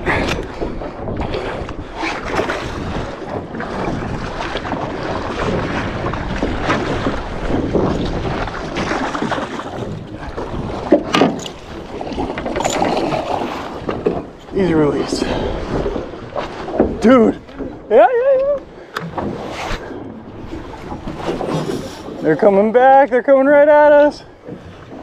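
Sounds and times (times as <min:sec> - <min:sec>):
wind on microphone: 0:00.0 - 0:22.4
water sloshing against hull: 0:00.0 - 0:25.0.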